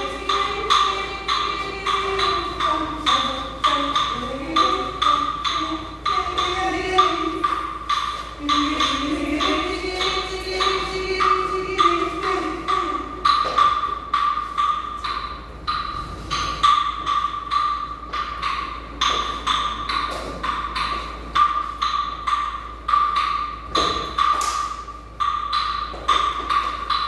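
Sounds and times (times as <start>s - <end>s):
wood-block-like percussion strikes: 0.0s - 27.0s.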